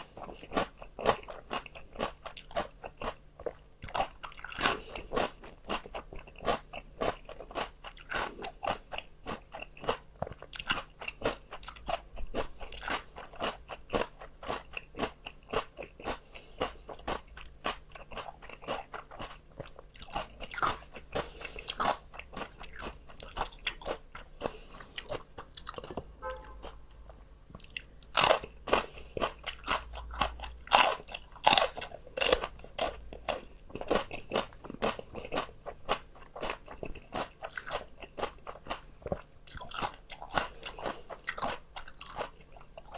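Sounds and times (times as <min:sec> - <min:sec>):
crunching and chewing vegetables: 0:00.0 - 0:42.9.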